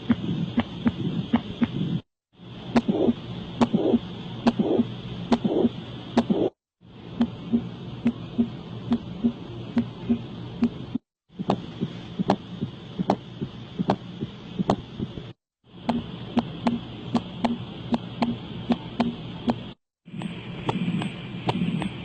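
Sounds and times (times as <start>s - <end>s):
heart beating with sharp clicks: 0.0s - 2.0s, 2.8s - 6.6s, 7.2s - 22.0s
heartbeat lub-dub: 0.0s - 2.0s, 2.8s - 6.6s, 7.2s - 22.0s.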